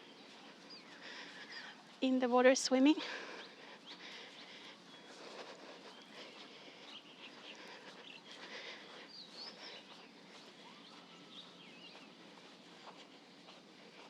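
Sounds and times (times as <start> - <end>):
faint birds chirping and whistling: 0.0 - 2.0, 3.0 - 14.0
steady outdoor background hiss: 0.0 - 14.0.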